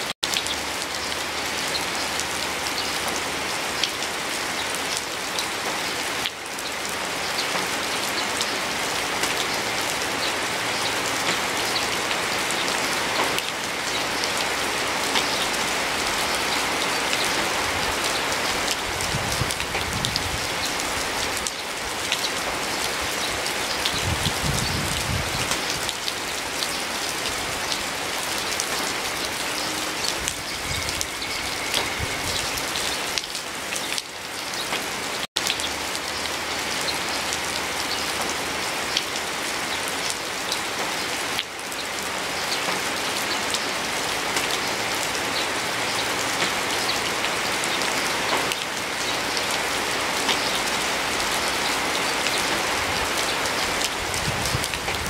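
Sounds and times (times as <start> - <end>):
raindrops pattering: 0.0 - 55.0
steady rain falling: 0.0 - 55.0.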